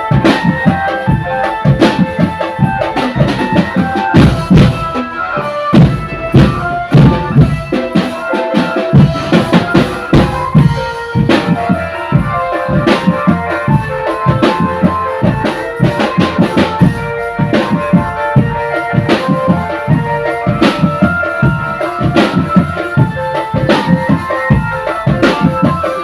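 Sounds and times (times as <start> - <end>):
bass and snare drums beating: 0.0 - 26.0
steady melody line: 0.0 - 26.0.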